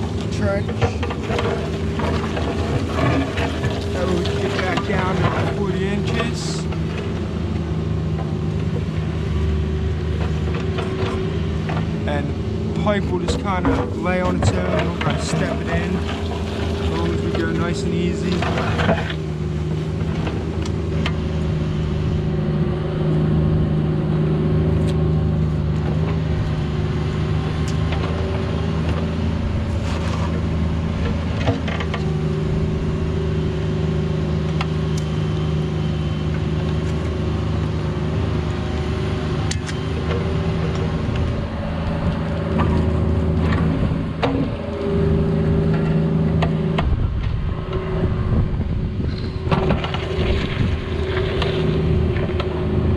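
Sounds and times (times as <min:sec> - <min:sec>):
excavator engine running: 0:00.0 - 0:52.9.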